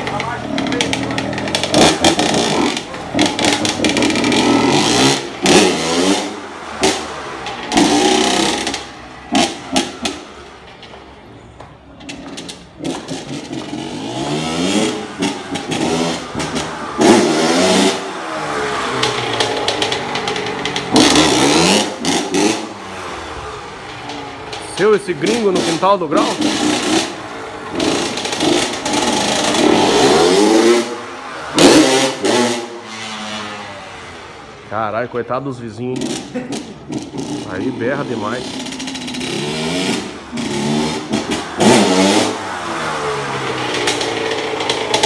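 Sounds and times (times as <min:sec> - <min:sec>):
dirt bike engine revving: 0:00.0 - 0:10.6, 0:12.2 - 0:34.7, 0:35.9 - 0:45.0.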